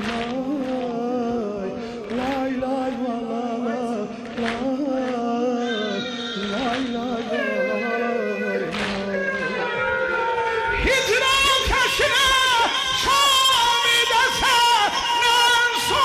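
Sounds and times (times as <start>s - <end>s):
man singing a lament: 0.0s - 16.0s.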